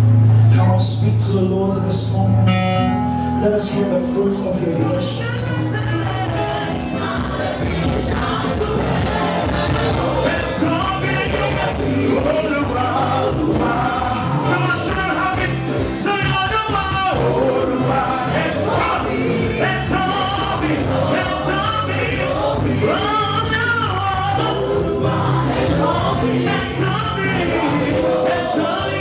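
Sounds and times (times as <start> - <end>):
gospel singing over a band: 3.4 - 29.0.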